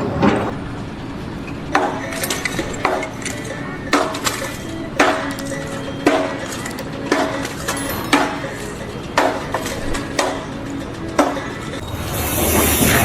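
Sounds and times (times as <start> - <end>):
hammer blows ringing: 1.5 - 13.0.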